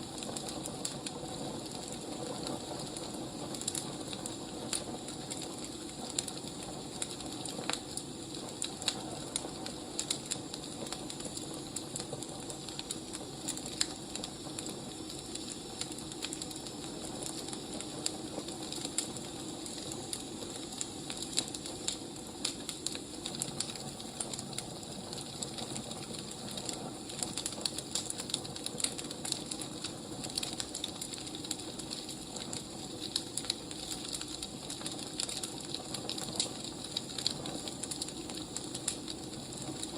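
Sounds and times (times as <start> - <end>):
wood fire crackling and hissing: 0.0 - 39.9.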